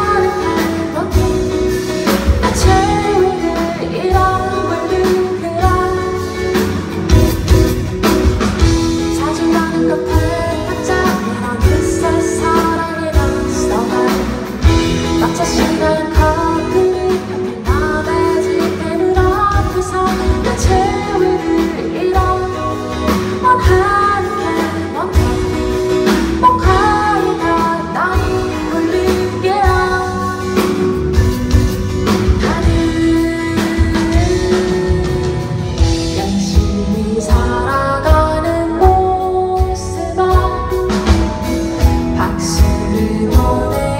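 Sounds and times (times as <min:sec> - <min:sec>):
live pop band: 0:00.0 - 0:43.9
woman singing: 0:00.0 - 0:43.9.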